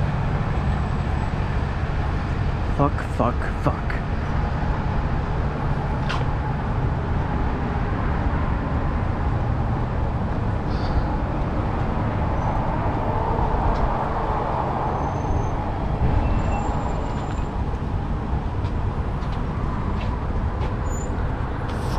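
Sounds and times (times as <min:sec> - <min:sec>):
road traffic rumble: 0:00.0 - 0:21.9.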